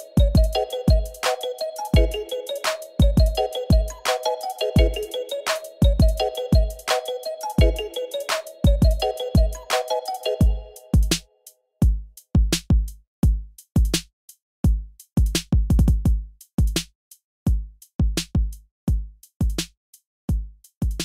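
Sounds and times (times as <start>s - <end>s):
drum machine beat: 0.0s - 21.0s.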